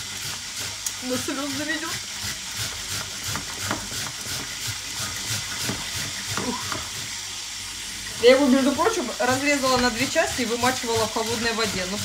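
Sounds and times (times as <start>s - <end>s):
onion grated on metal grater: 0.0s - 7.2s, 8.2s - 12.0s
peppers sizzling in a pan: 0.0s - 12.0s.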